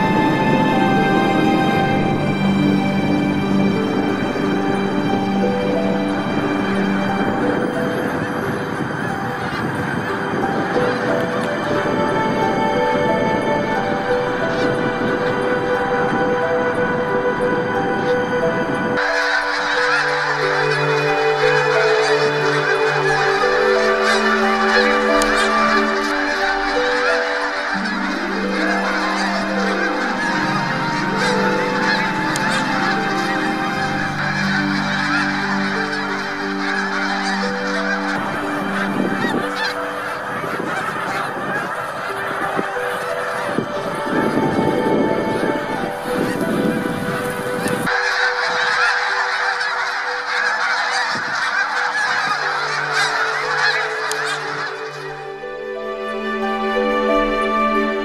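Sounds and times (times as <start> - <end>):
geese honking: 0.0 - 58.0
low sustained tones: 0.0 - 58.0.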